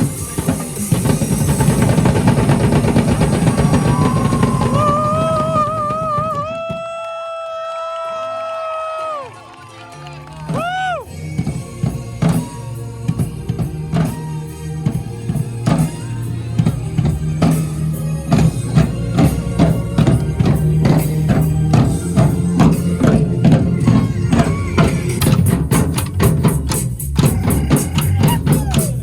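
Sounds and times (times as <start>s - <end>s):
bass backing: 0.0s - 6.7s, 9.9s - 29.0s
drums beating a fast rhythm: 0.0s - 7.0s, 10.0s - 29.0s.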